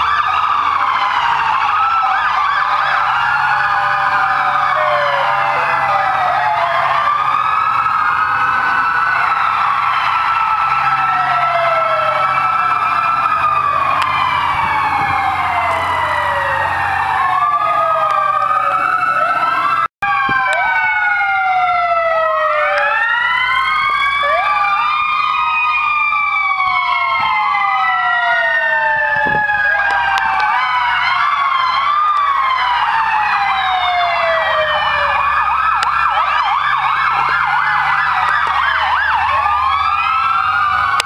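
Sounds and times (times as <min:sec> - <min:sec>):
fire truck sirens wailing: 0:00.0 - 0:41.0.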